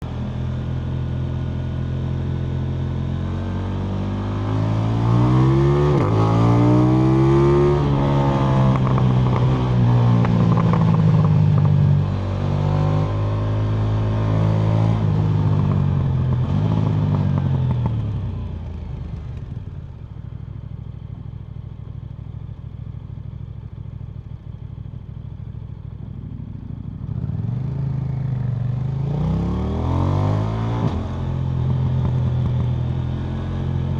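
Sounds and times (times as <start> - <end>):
motorcycle engine revving: 0.0 - 20.4, 26.0 - 33.9.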